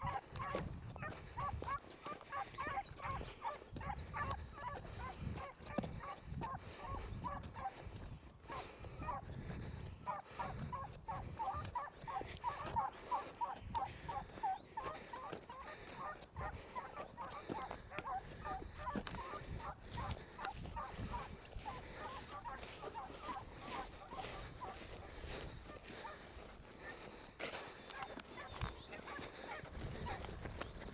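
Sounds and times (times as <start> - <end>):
dogs baying and barking: 0.0 - 30.9.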